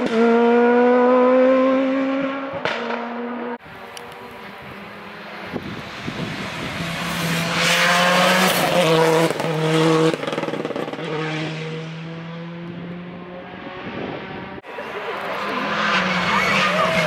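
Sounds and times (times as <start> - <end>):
rally car passing at speed: 0.0 - 17.0.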